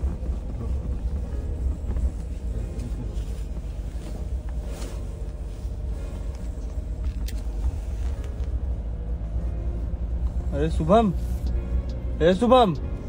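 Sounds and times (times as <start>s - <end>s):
vehicle rumbling on bumpy road: 0.0s - 13.0s.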